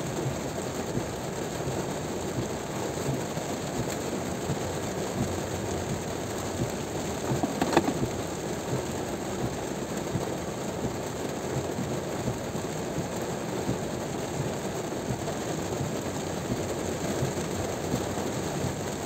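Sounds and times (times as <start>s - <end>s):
steady hiss of rain: 0.0s - 19.0s.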